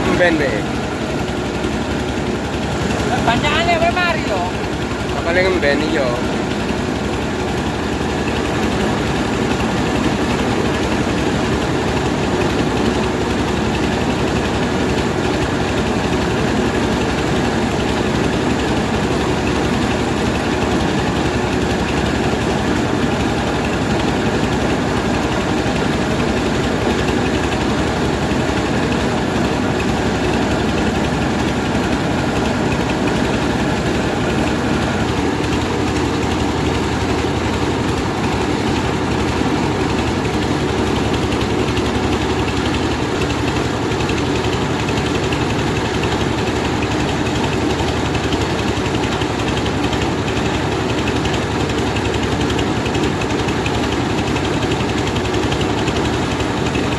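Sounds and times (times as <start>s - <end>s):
milling machine drone: 0.0s - 47.8s.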